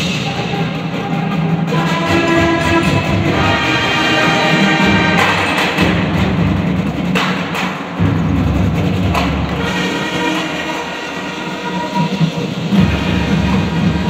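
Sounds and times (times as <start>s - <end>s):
loud drum strikes: 0.0s - 14.0s
marching band playing: 0.0s - 14.0s.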